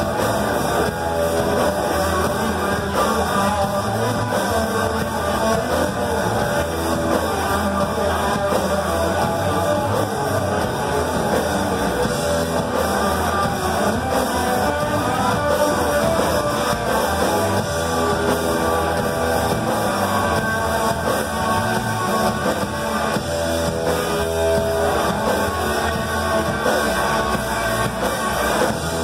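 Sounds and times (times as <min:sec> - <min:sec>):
electric guitar: 0:00.0 - 0:29.0
rock band playing loud: 0:00.0 - 0:29.0.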